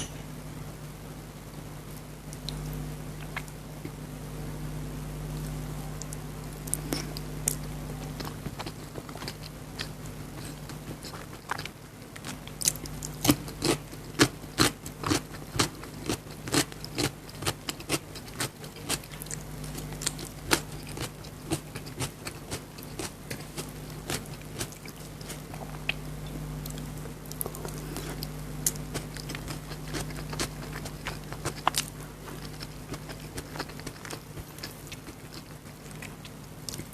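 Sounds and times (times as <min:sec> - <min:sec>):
steady low hum: 0:00.0 - 0:36.9
chewing and lip-smacking: 0:06.0 - 0:36.9.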